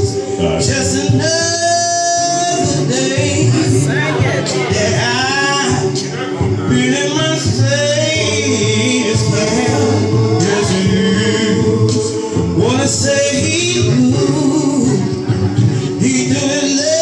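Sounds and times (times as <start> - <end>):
men's a cappella chorus singing: 0.0 - 17.0.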